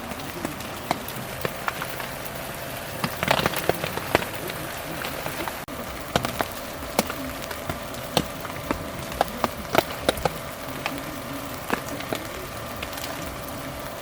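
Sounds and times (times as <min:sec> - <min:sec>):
faint steady hum: 0:00.0 - 0:14.0
rain pattering on tent: 0:00.0 - 0:14.0.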